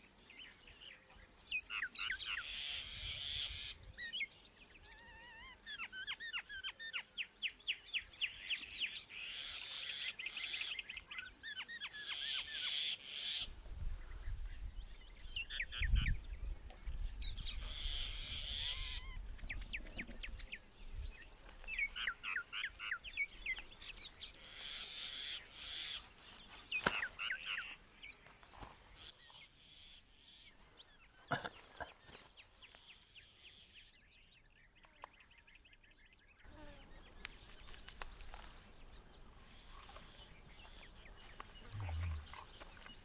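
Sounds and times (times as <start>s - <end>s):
birds chirping: 0.4s - 43.0s.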